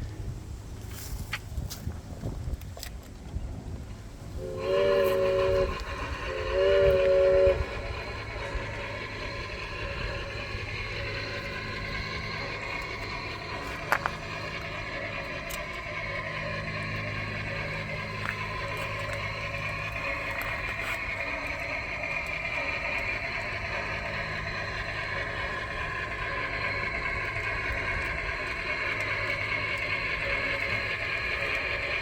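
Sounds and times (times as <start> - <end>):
model train running: 0.0 - 32.0
steam whistle blasts: 4.4 - 32.0.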